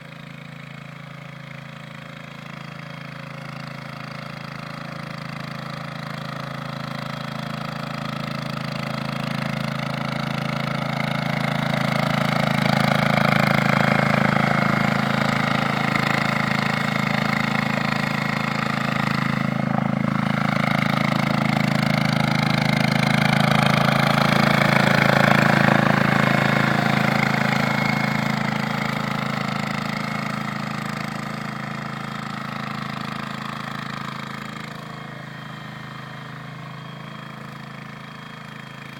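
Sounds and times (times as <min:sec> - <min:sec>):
power tiller engine running: 0:00.0 - 0:38.9.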